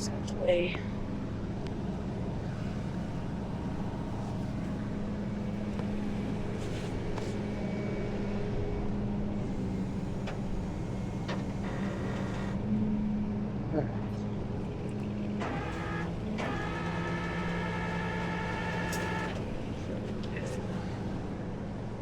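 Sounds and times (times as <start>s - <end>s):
truck engine running: 0.0s - 21.6s.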